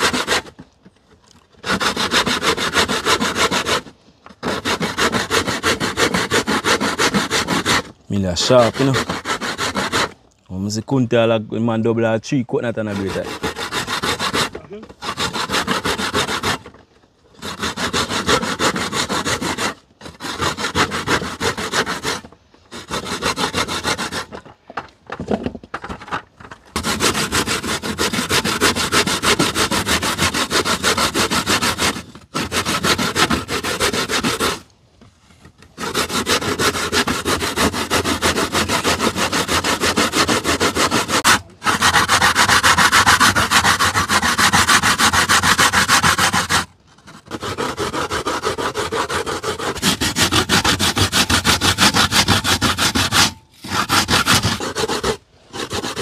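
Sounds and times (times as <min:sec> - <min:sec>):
coconut grating by hand: 0:00.0 - 0:00.6, 0:01.6 - 0:10.2, 0:12.7 - 0:16.6, 0:17.4 - 0:24.4, 0:26.7 - 0:34.6, 0:35.7 - 0:56.0.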